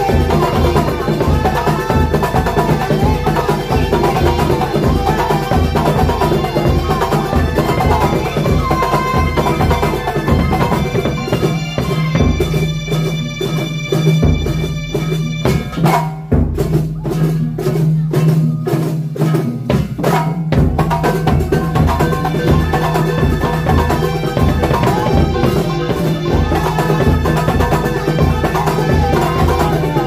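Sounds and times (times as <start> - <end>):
melodic instruments: 0.0 - 16.0, 21.3 - 30.0.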